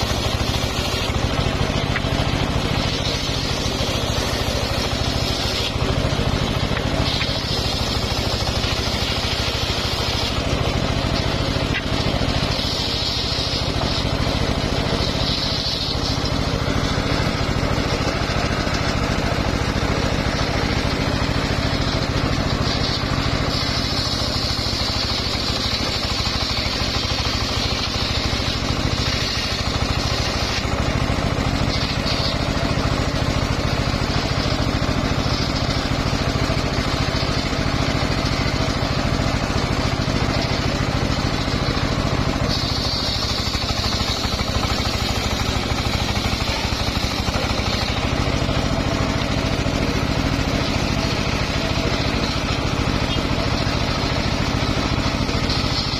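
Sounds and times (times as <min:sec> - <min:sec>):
saw blade whining through log: 0:00.0 - 0:55.9
sawmill engine running: 0:00.0 - 0:55.9.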